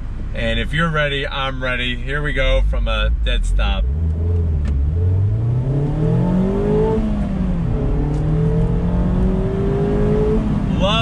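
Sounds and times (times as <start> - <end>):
car engine accelerating: 0.4 - 11.0.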